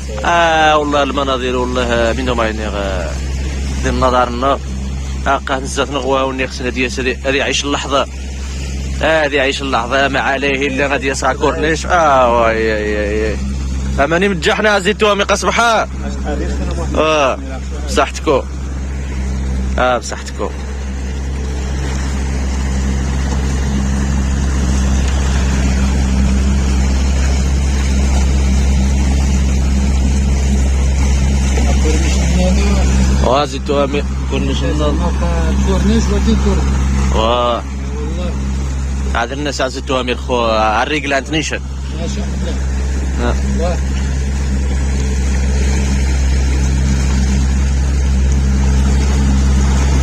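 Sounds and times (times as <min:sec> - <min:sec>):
motorboat engine drone: 0:00.0 - 0:50.0
water and rushing air: 0:00.0 - 0:50.0.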